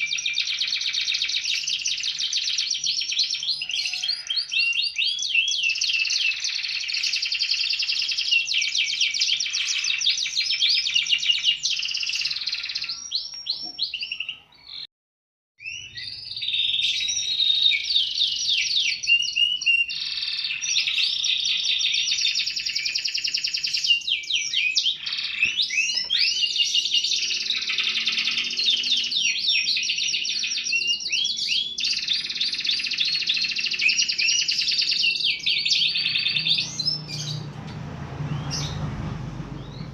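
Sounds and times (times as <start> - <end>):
canary singing trills: 0.0 - 14.9, 15.6 - 39.9.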